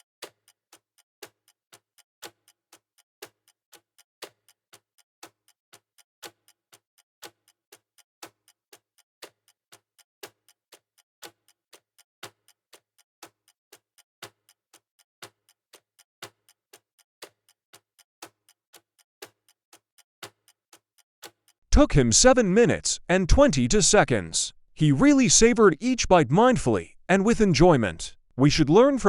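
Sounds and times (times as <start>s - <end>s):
clock ticking: 0.0s - 29.0s.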